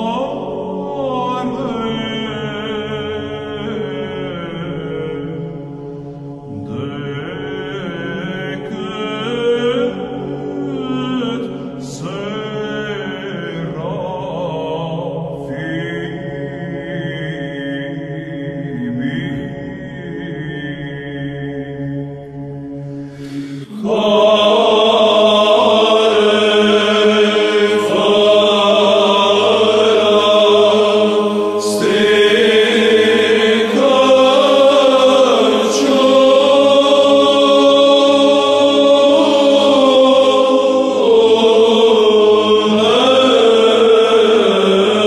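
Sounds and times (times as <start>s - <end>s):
chant-like voices: 0.0s - 45.0s
steady drone: 0.0s - 45.0s.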